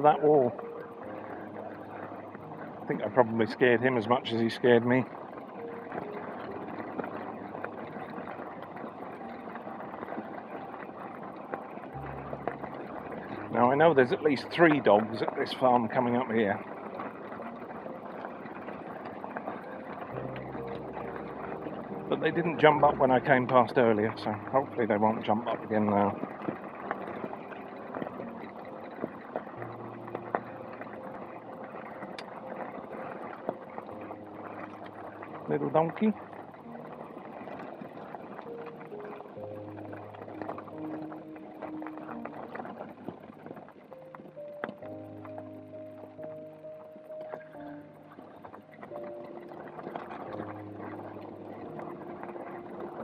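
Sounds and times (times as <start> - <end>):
road and wind noise: 0.0 - 53.0
small clicks and rattles: 0.0 - 53.0.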